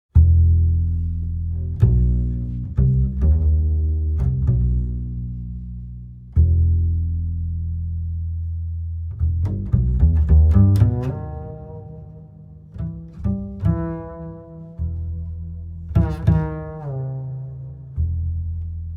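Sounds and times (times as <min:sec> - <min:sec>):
plucked bass notes: 0:00.1 - 0:18.9.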